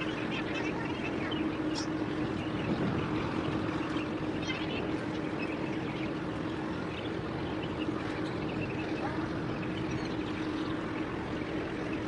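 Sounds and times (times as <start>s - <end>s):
ship engine drone: 0.0s - 12.0s
water and wind hiss: 0.0s - 12.0s.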